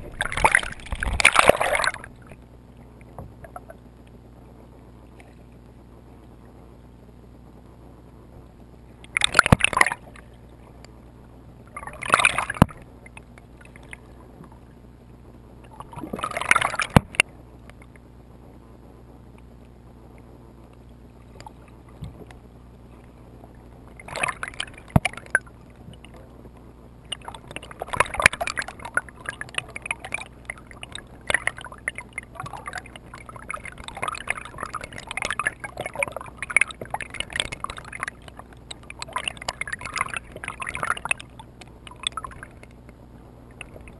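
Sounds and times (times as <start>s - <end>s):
water gurgling and bubbling: 0.0s - 4.3s, 8.5s - 17.4s, 20.9s - 43.9s
faint low hum: 0.0s - 43.9s.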